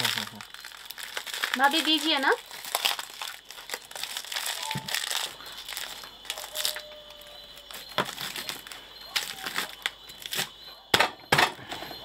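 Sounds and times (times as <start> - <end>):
leaves rustling and crinkling: 0.0 - 10.6.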